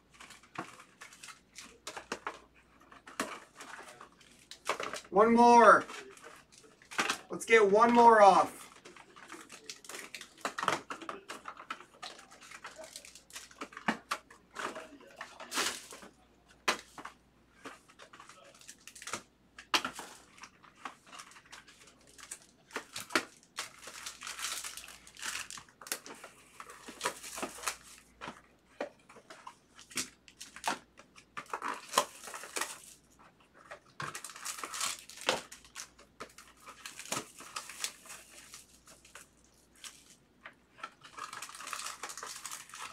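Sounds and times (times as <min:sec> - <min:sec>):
foil wrappers crinkling: 0:00.0 - 0:42.9.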